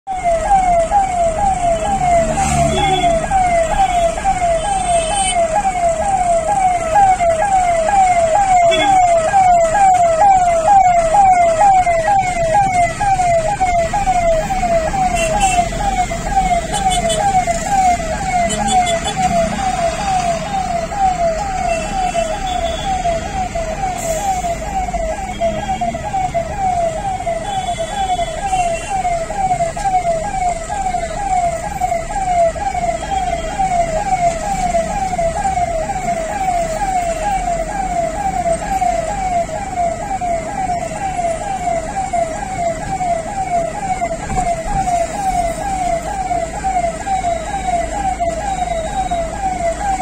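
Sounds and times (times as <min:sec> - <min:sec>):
ambulance siren wailing: 0:00.1 - 0:50.0.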